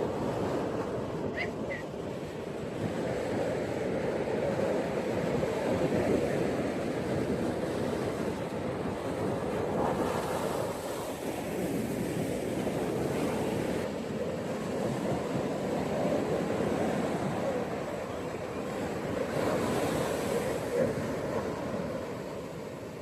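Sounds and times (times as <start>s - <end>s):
ocean waves breaking on beach: 0.0s - 23.0s.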